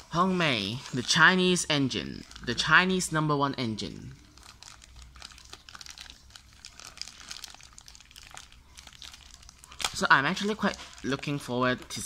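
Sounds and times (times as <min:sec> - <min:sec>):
plastic bag crinkling: 0:00.0 - 0:03.1, 0:03.9 - 0:12.0.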